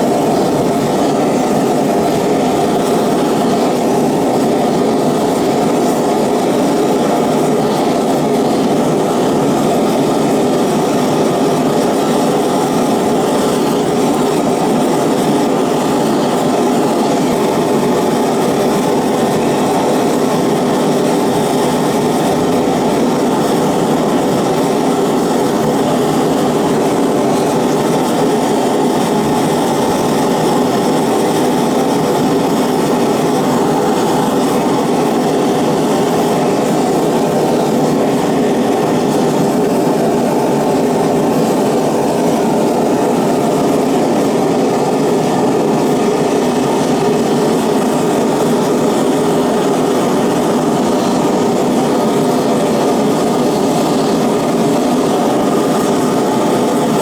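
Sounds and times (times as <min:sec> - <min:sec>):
gas burner running: 0:00.0 - 0:57.0.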